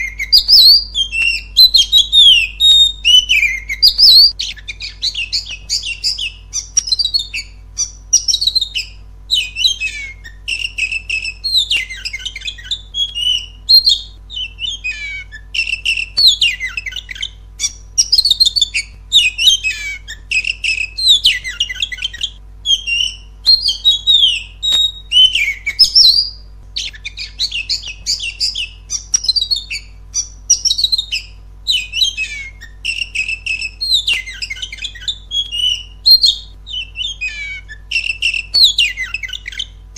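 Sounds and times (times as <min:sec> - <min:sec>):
bird singing whistled phrases: 0:00.0 - 0:39.8.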